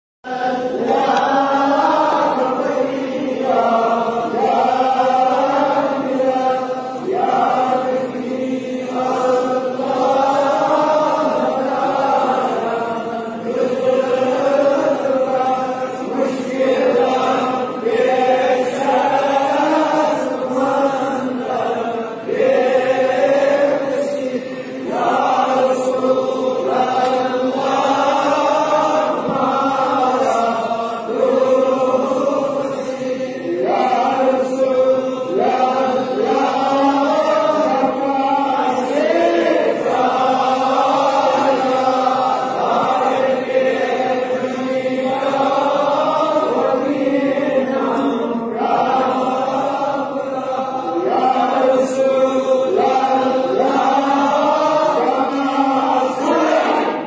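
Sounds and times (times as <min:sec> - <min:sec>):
men chanting in unison: 0:00.2 - 0:57.0.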